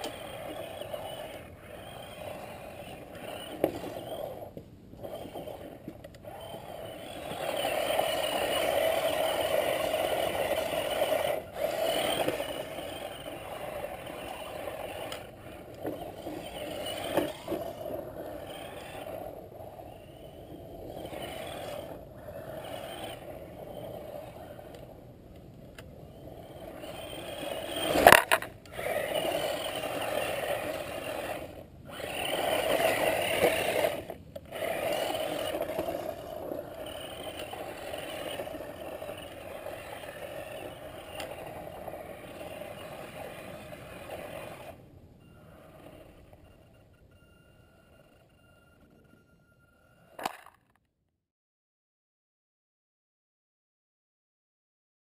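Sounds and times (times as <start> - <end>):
tyres churning through snow: 0.0 - 25.0, 26.0 - 46.3
electric motor and gears whining: 0.0 - 50.6.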